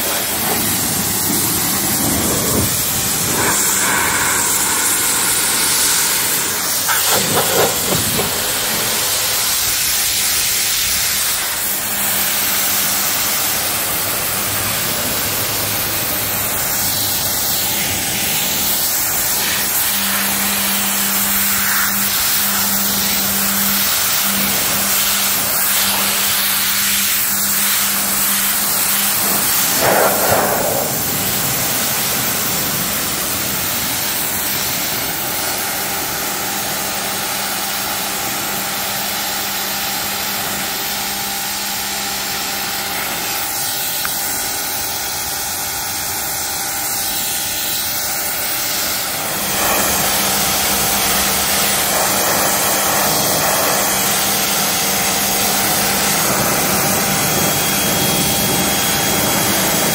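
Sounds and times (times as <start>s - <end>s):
pressure washer jet hissing: 0.0s - 59.9s
pressure washer motor humming: 0.0s - 59.9s.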